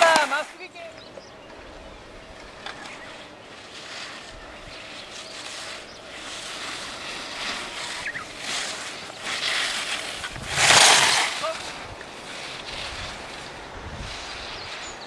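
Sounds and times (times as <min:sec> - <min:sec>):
skis scraping on snow: 0:00.0 - 0:15.0.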